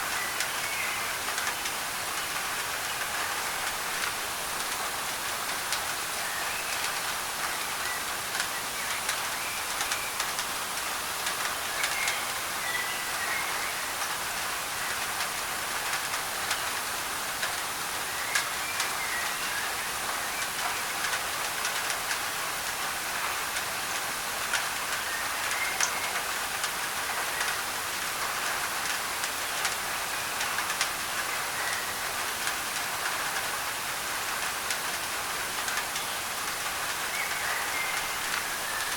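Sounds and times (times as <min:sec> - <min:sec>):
rain on a tin roof: 0:00.0 - 0:38.9
white noise: 0:00.0 - 0:38.9.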